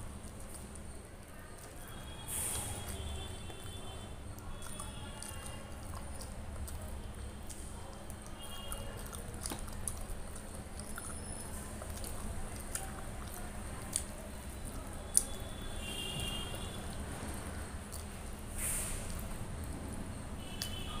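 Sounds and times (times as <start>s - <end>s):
wet chewing: 0.0s - 21.0s.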